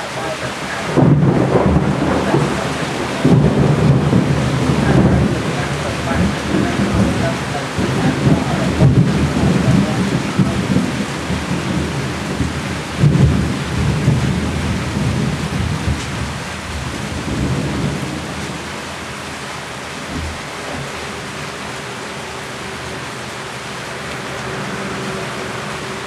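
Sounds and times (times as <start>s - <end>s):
low rolling thunder: 0.0s - 23.0s
heavy rain: 0.0s - 26.0s.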